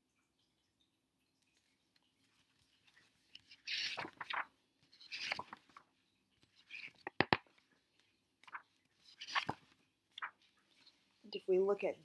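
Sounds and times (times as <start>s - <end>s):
book pages turning: 1.6s - 11.2s.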